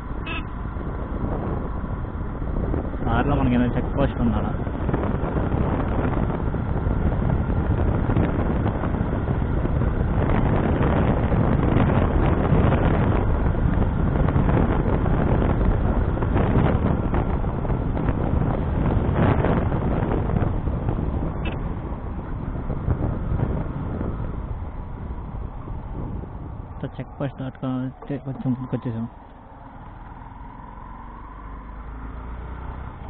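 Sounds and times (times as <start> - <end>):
road noise: 0.0 - 33.0
wind buffeting microphone: 0.0 - 33.0
motorcycle engine: 4.6 - 33.0.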